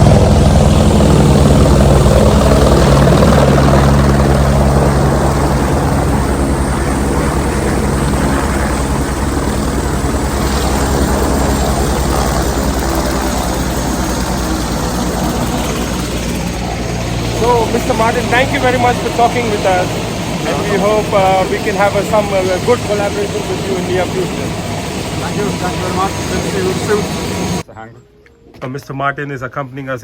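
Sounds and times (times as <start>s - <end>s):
helicopter engine: 0.0s - 27.7s
helicopter rotor chopping: 0.0s - 27.7s.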